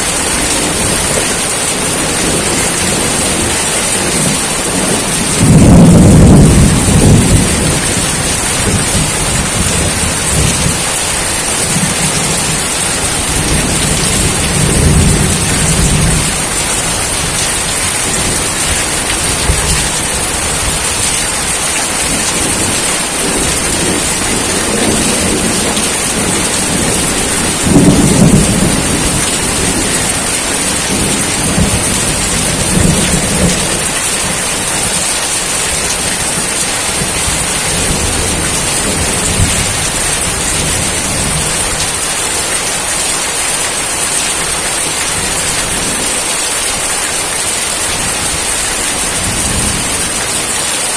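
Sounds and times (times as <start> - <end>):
low rolling thunder: 0.0 - 43.0
heavy rain hissing: 0.0 - 50.9.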